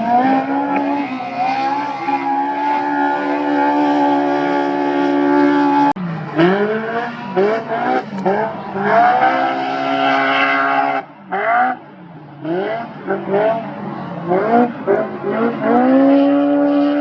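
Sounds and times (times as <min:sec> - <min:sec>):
race vehicle engine revving: 0:00.0 - 0:17.0.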